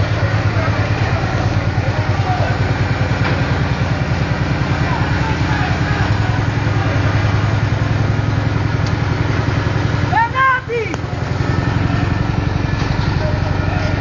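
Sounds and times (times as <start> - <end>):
faint voices: 0.0 - 8.8, 10.0 - 14.0
fire pump engine droning: 0.0 - 14.0.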